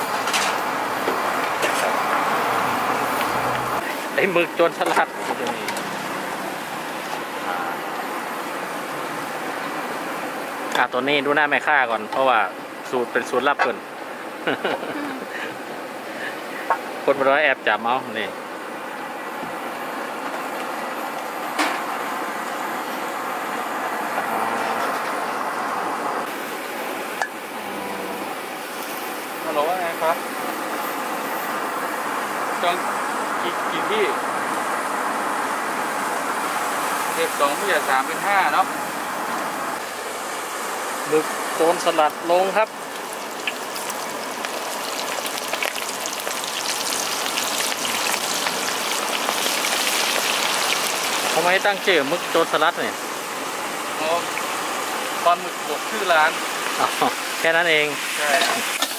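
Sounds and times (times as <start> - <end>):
deep-frying sizzle in oil: 0.0 - 25.6, 28.5 - 58.9
cooking hiss: 0.0 - 58.9.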